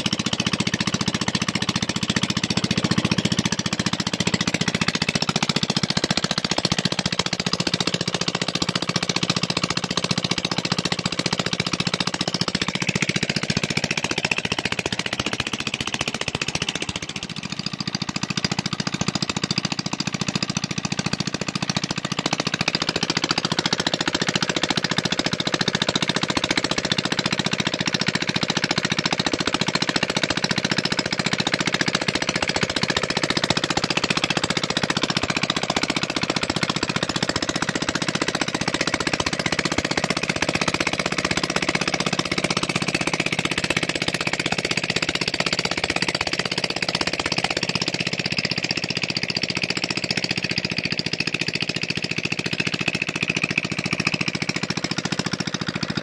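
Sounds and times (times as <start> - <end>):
diesel engine running without muffler: 0.0 - 56.0.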